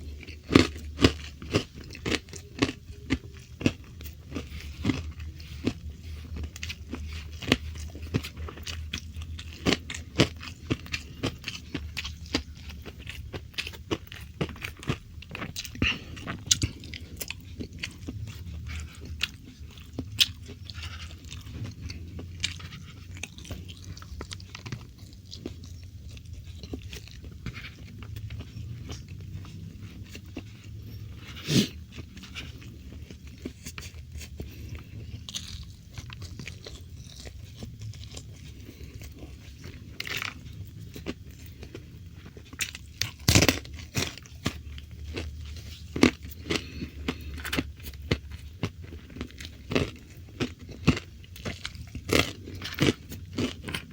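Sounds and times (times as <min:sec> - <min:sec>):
person chewing crispy food: 0:00.0 - 0:53.9.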